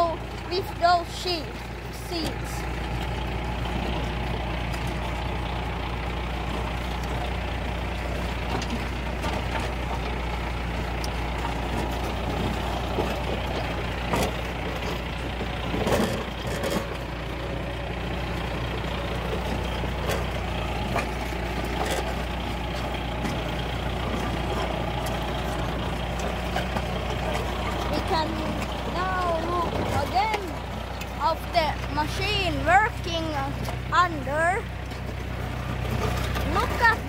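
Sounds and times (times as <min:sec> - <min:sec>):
planter mechanism clattering: 0:00.0 - 0:37.0
tractor engine running: 0:00.0 - 0:37.0.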